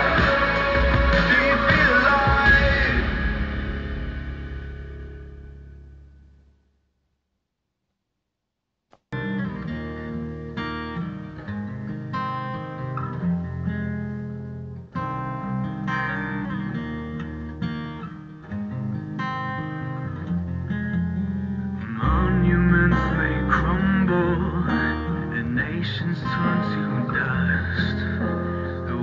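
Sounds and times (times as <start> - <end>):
guitar playing chords: 0.0 - 6.6, 9.2 - 29.0.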